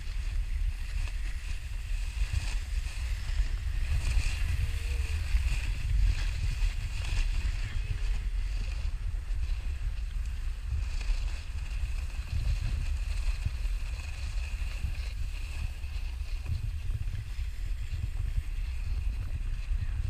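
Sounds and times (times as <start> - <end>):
snowboard sliding on snow: 0.0 - 20.0
wind buffeting microphone: 0.0 - 20.0.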